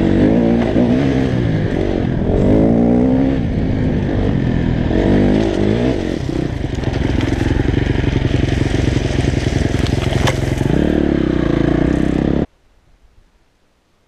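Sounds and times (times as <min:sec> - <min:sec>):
motorcycle engine running: 0:00.0 - 0:12.5
faint wind: 0:00.0 - 0:14.0.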